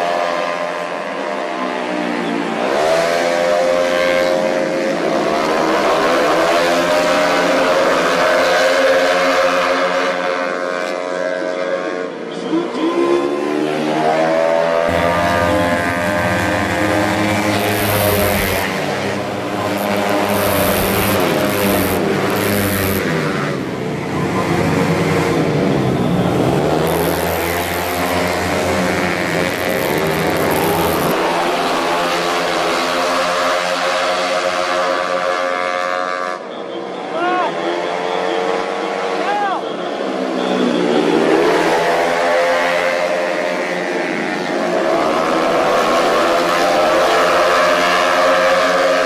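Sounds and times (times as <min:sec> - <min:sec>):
scooter engines racing: 0:00.0 - 0:49.0.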